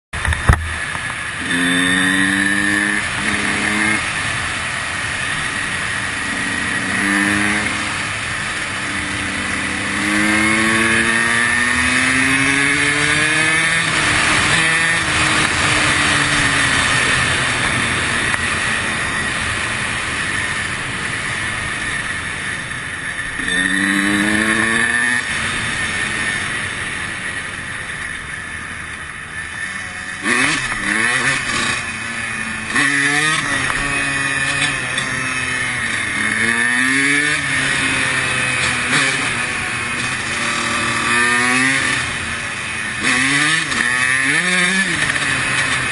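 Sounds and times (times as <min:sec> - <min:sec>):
two-stroke engine revving: 0:00.2 - 0:28.6, 0:29.6 - 0:45.9
steady rushing noise: 0:00.2 - 0:45.9.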